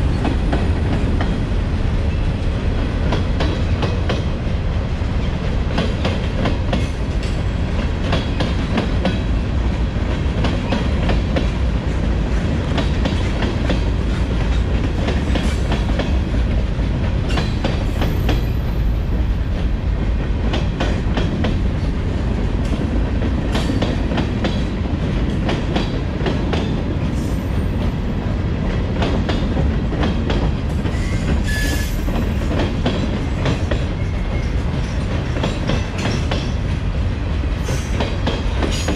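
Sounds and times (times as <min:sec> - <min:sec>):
train cars rumbling: 0:00.0 - 0:38.9.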